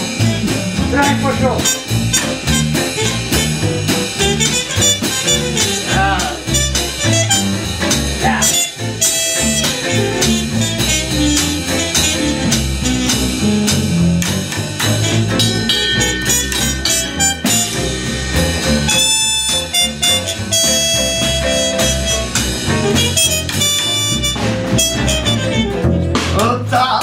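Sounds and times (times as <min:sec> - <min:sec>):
plucked double bass: 0:00.0 - 0:27.0
steady tapped beat: 0:00.0 - 0:27.0
trumpet playing lead: 0:01.0 - 0:13.5, 0:14.8 - 0:26.2.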